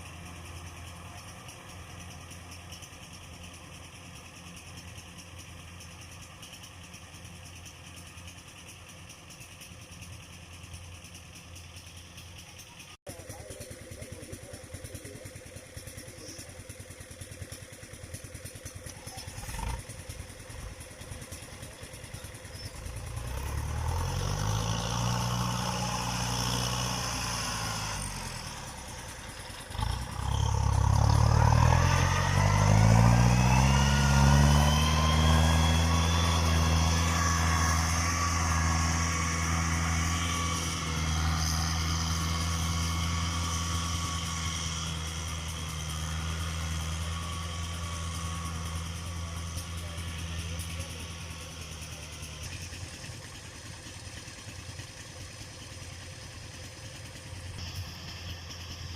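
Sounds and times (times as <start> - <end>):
combine harvester engine revving: 0.0 - 58.9.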